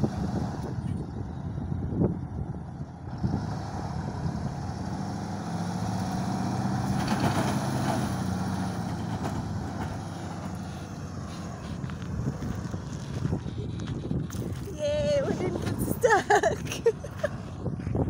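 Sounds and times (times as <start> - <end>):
diesel truck engine under load: 0.0 - 18.0.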